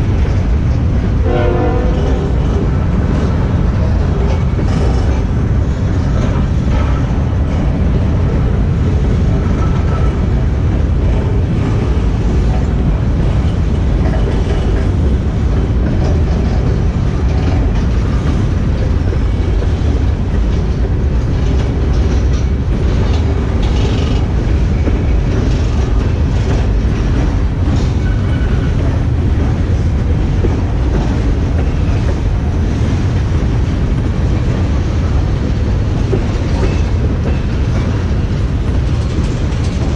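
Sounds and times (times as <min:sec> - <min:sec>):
train wheels rumbling on rail: 0:00.0 - 0:39.9
wheels clicking over rail joints: 0:00.0 - 0:39.9.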